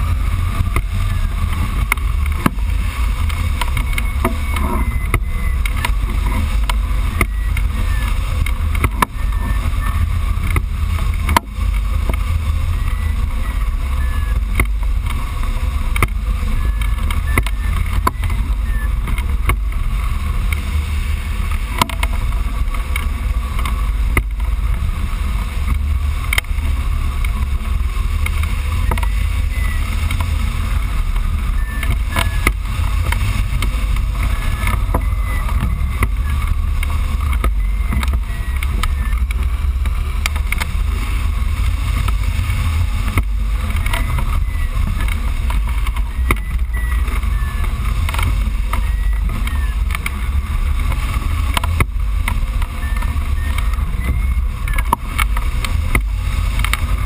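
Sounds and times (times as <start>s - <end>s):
wind rumble on microphone: 0.0s - 57.0s.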